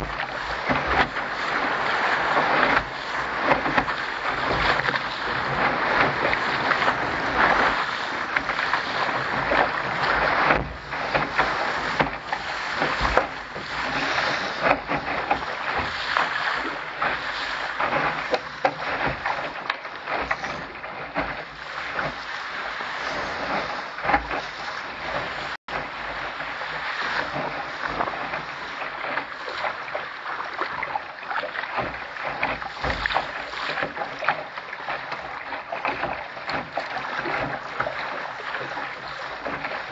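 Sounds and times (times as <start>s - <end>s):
water splashing against hull: 0.0s - 39.9s.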